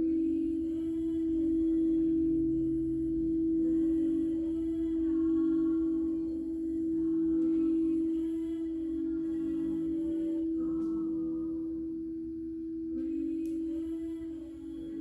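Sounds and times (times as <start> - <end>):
singing bowl humming: 0.0 - 15.0.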